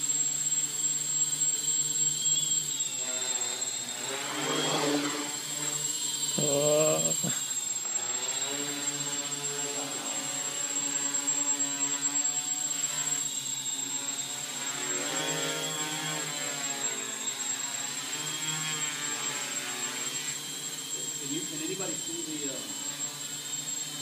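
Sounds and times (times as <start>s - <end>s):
quadcopter hovering buzz: 0.0s - 24.0s.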